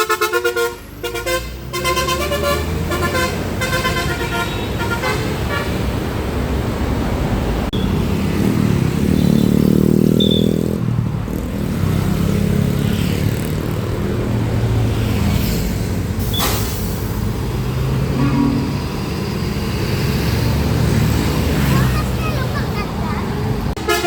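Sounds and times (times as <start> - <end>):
bus engine droning: 0.0 - 12.2, 13.3 - 24.0.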